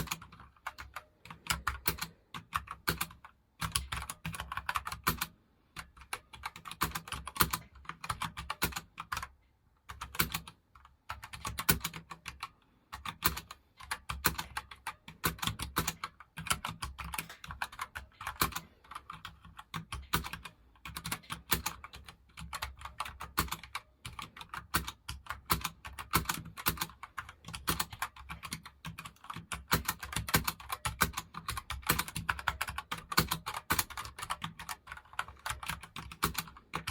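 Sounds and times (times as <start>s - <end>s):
keyboard typing clicks: 0.0s - 36.9s.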